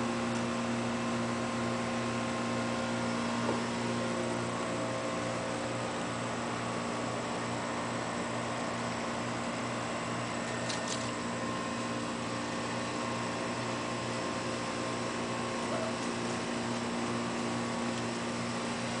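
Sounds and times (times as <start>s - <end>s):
mechanical hum and hiss: 0.0s - 19.0s.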